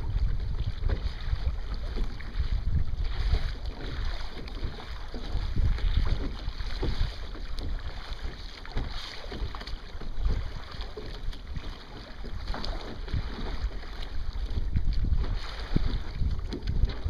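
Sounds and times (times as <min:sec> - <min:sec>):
water slapping along hull: 0:00.0 - 0:17.0
wind buffeting microphone: 0:00.0 - 0:17.0.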